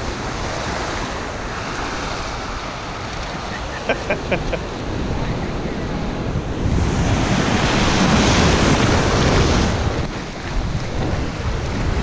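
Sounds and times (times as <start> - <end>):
surf waves breaking: 0.0 - 12.0
wind buffeting microphone: 0.0 - 12.0.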